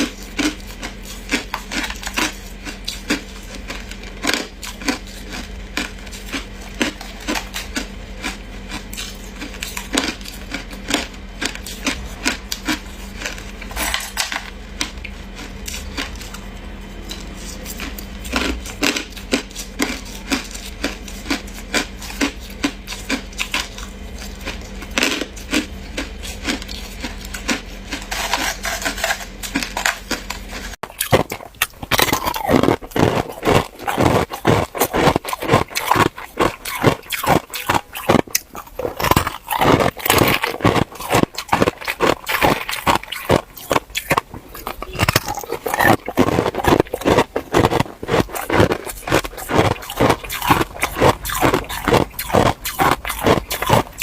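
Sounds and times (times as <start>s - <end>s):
ice crunching being chewed: 0.0s - 54.0s
low steady hum: 0.0s - 54.0s.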